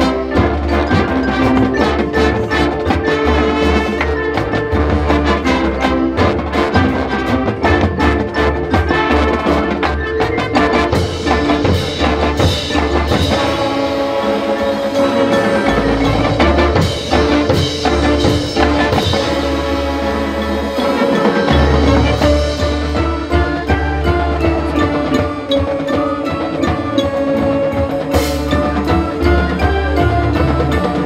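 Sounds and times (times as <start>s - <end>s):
drum strikes: 0.0s - 31.0s
mallet percussion: 0.0s - 31.0s
marching band playing: 0.0s - 31.0s.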